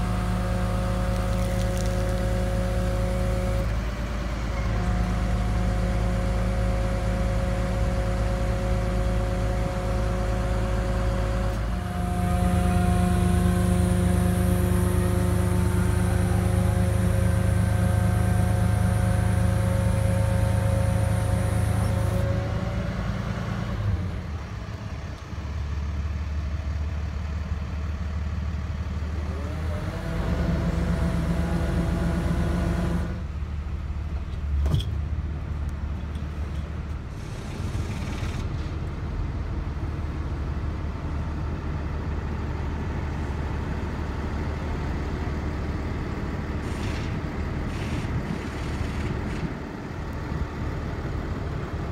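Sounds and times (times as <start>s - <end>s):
hydraulic boom humming and whining: 0.0s - 51.9s.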